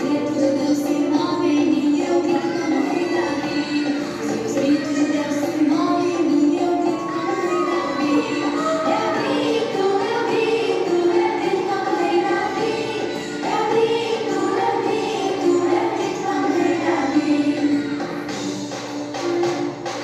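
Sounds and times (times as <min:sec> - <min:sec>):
children's song with singing: 0:00.0 - 0:20.0.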